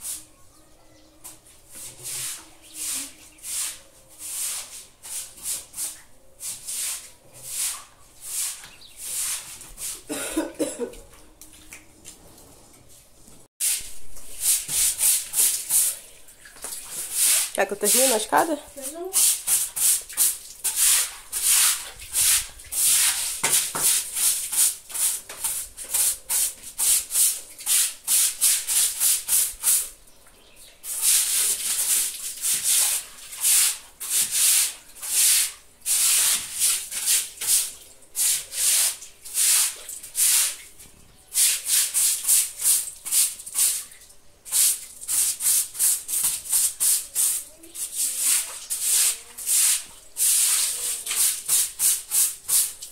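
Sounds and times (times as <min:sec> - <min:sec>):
stiff broom scrubbing wet concrete: 0:01.3 - 0:10.2, 0:13.6 - 0:30.0, 0:30.8 - 0:43.9, 0:44.5 - 0:52.9.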